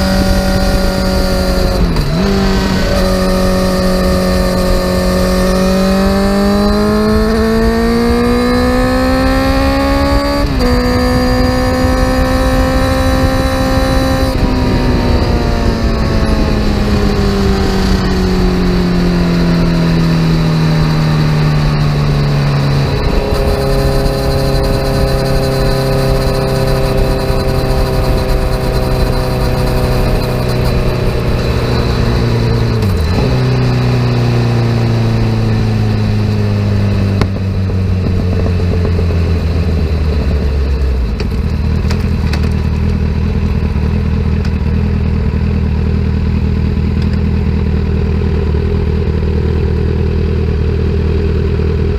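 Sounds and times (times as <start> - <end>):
motorcycle engine decelerating: 0.0 - 51.9.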